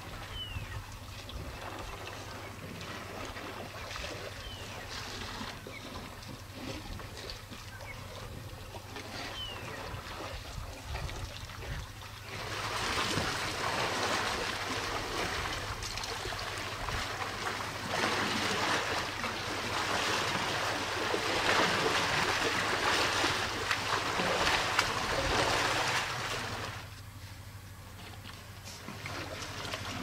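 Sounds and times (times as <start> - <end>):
water splashing and sloshing: 0.0 - 27.2, 27.8 - 30.0.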